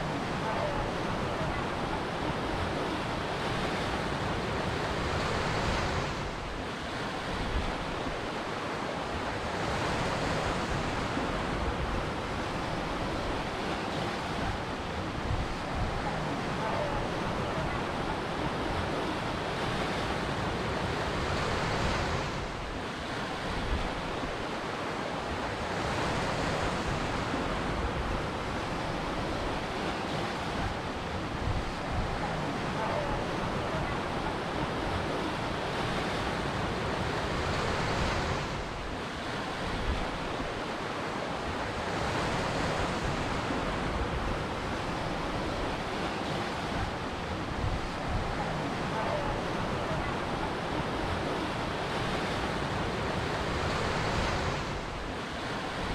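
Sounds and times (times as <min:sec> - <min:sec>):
ocean waves breaking on shore: 0:00.0 - 0:55.9.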